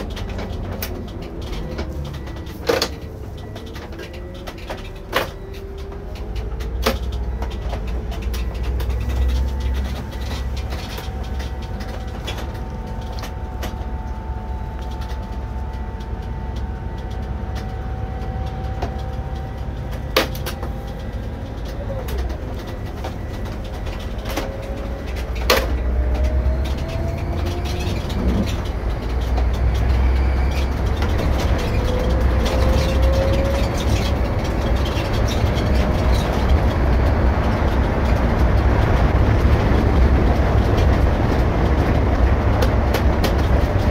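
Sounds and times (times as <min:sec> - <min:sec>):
bus engine and road rumble: 0:00.0 - 0:43.9
drivetrain whine: 0:00.0 - 0:43.9.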